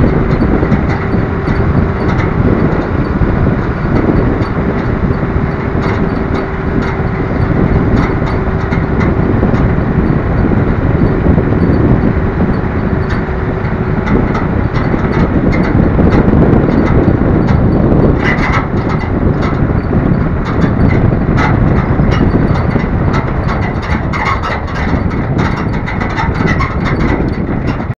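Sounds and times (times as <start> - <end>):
rattles and knocks: 0.0 - 27.9
vehicle engine and road rumble: 0.0 - 27.9.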